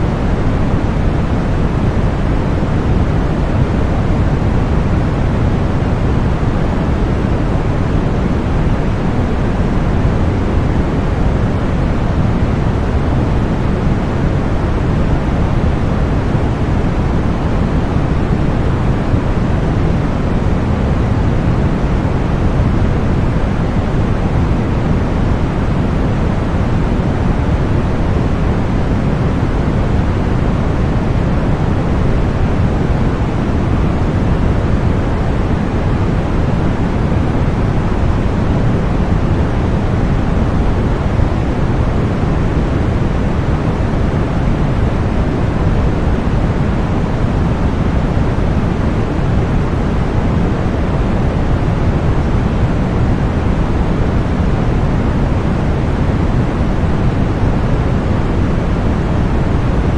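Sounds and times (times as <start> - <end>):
steady low white noise: 0.0 - 59.9.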